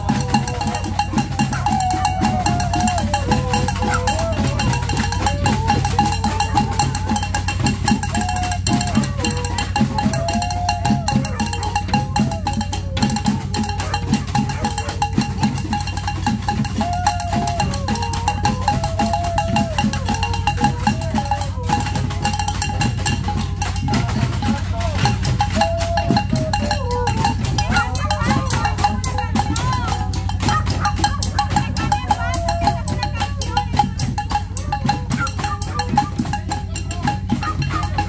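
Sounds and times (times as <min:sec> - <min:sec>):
drum and tin percussion: 0:00.0 - 0:38.0
wavering melody: 0:00.0 - 0:38.0.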